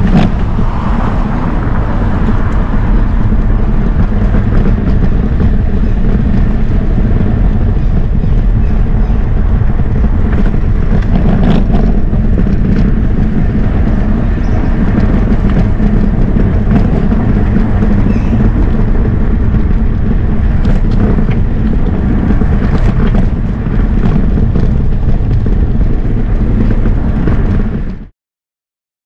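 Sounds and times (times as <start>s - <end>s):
wheels rolling over brick paving: 0.0s - 28.1s
wind on microphone: 0.0s - 28.1s.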